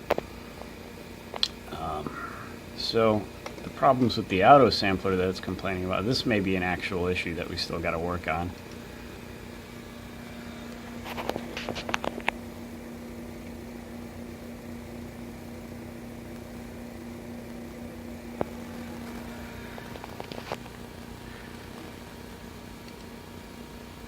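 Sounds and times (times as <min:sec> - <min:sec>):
machine fans humming: 0:00.0 - 0:24.0.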